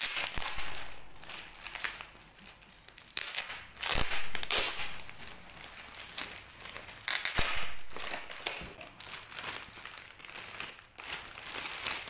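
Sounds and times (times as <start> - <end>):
parcel wrapping crinkling: 0.0 - 12.0.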